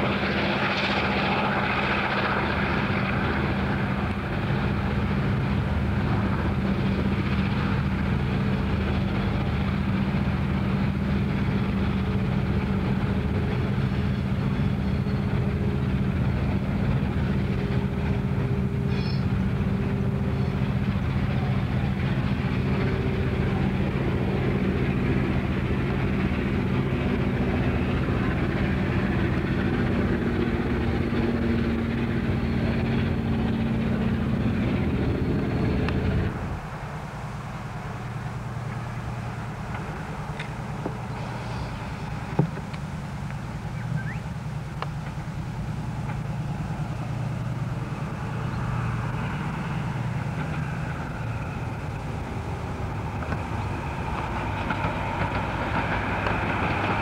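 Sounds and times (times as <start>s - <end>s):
diesel locomotive engines droning: 0.0s - 57.0s
train rumbling: 0.0s - 57.0s.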